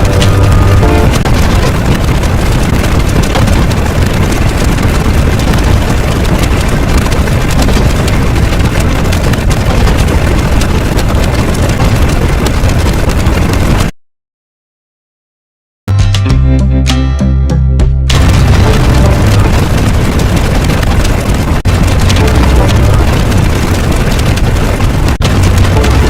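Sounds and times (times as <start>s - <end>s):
distorted engine-like rumbling: 0.0s - 13.9s, 18.1s - 26.0s.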